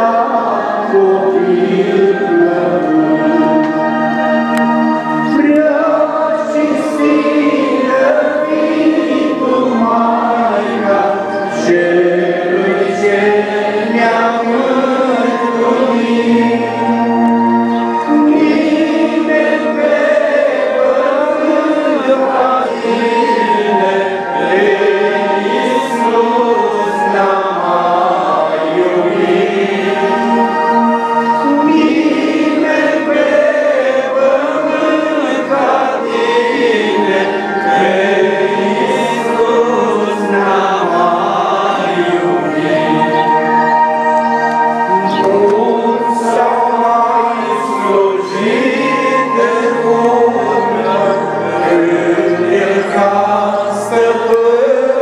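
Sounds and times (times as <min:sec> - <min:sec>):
choir singing a slow hymn: 0:00.0 - 0:55.0.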